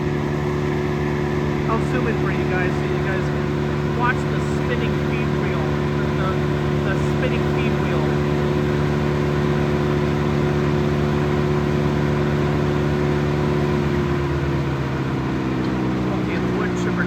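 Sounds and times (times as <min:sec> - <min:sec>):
wood chipper engine running: 0:00.0 - 0:17.0.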